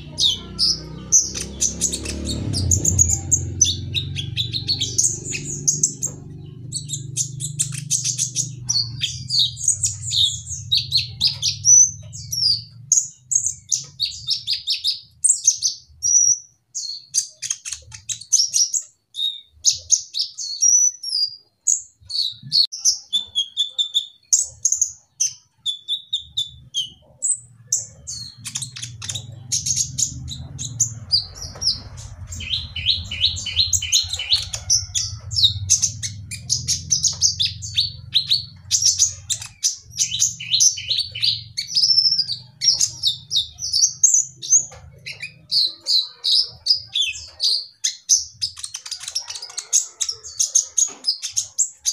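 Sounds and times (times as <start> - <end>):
sunbird singing: 0.0 - 51.9.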